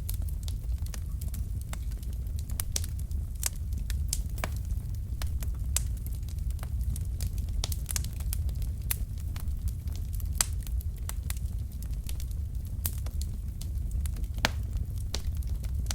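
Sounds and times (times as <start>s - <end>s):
logs crackling in a fireplace: 0.0s - 15.9s.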